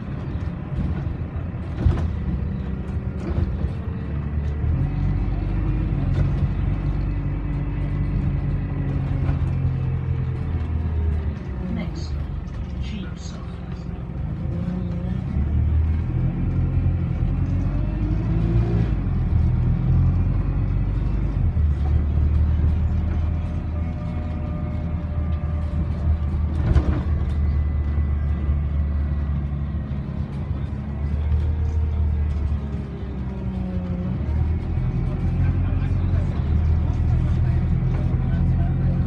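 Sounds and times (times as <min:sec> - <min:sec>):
bus engine drone: 0:00.0 - 0:39.0.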